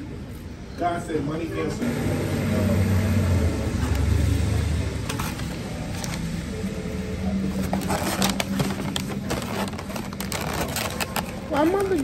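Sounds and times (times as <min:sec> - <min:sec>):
vehicle engine rumbling: 0:01.8 - 0:12.0.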